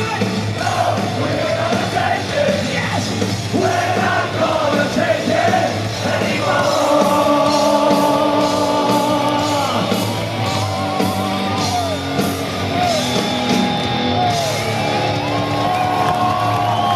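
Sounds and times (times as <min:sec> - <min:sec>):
singer yelling: 0:00.0 - 0:14.4
heavy rock band playing: 0:00.0 - 0:16.9.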